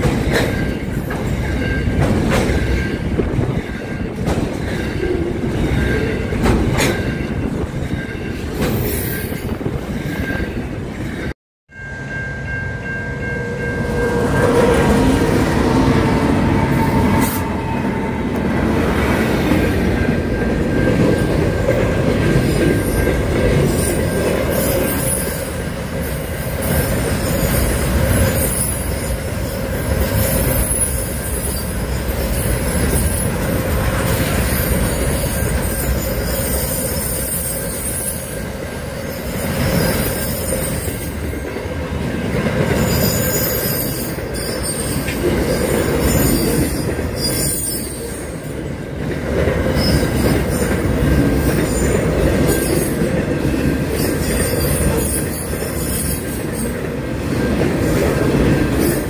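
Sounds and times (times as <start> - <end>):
train wheel squeal: 0.0 - 18.5, 19.3 - 41.6, 42.6 - 48.7, 49.6 - 53.2, 53.8 - 58.1
freight train passing: 0.0 - 59.0.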